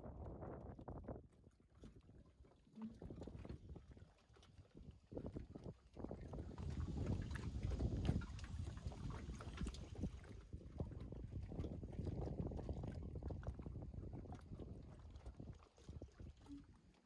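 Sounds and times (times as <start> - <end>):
water lapping against jetty: 0.6 - 17.0.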